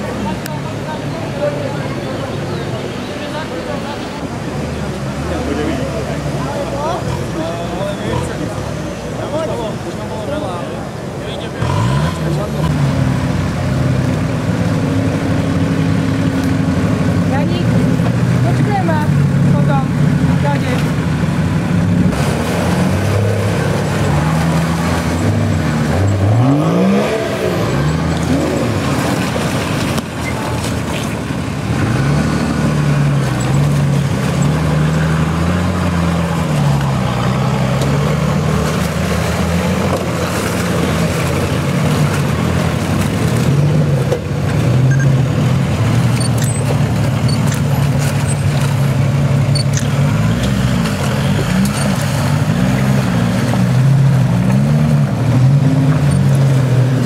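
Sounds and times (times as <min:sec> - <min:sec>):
suv engines revving in mud: 0:00.0 - 0:57.0.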